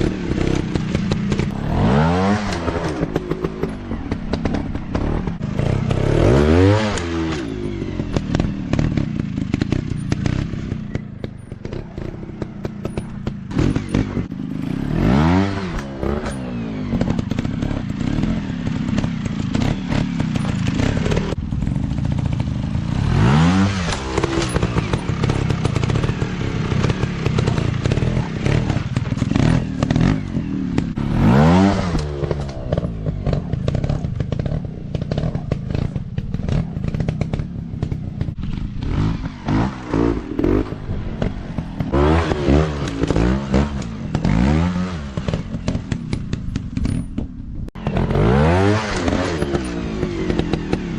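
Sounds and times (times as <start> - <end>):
dirt bike engines revving: 0.0 - 50.9
engine clatter: 0.0 - 50.9.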